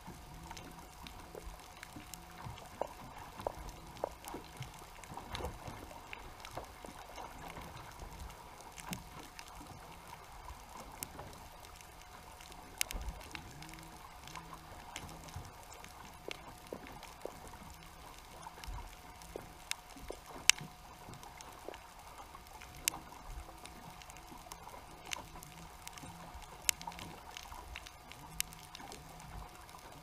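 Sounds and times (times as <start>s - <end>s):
faint steady hum: 0.0s - 30.0s
sharp underwater clicks: 0.0s - 30.0s
underwater low rumble: 0.0s - 30.0s.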